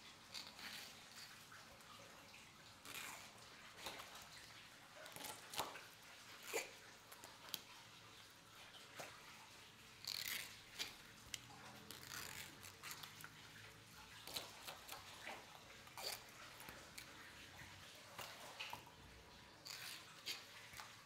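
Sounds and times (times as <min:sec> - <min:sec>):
wet squelches: 0:00.0 - 0:21.0.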